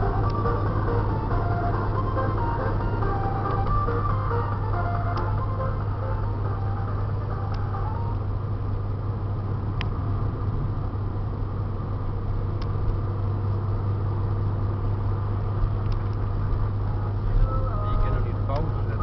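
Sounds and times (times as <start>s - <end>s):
car engine hum: 0.0s - 19.0s
tyre and road noise: 0.0s - 19.0s.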